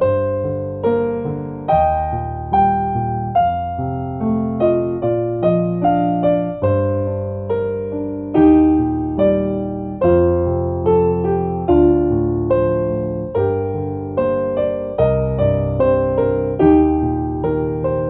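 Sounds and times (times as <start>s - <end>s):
gentle electric piano: 0.0s - 18.0s.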